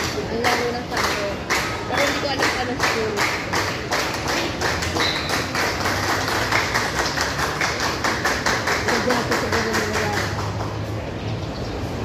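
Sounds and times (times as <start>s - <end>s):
spectators clapping in rhythm: 0.0s - 11.0s
faint crowd voices: 0.0s - 12.0s.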